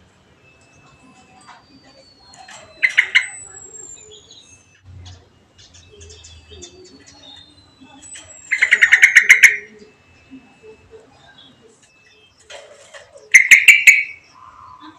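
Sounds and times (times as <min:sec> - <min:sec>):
songbirds whistling and chattering: 0:00.0 - 0:14.9.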